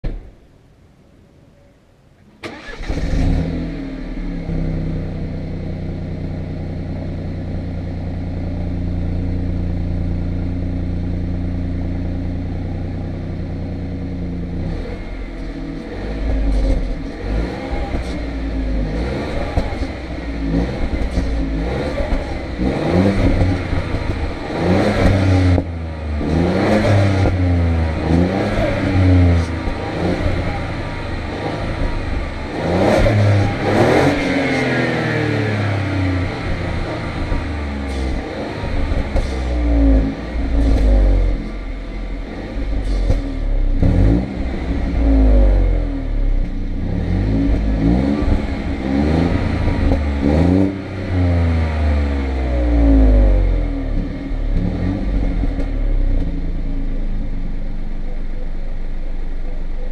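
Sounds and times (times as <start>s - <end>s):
car engine starting and idling: 0.0s - 59.9s
car engine revving: 2.4s - 59.9s.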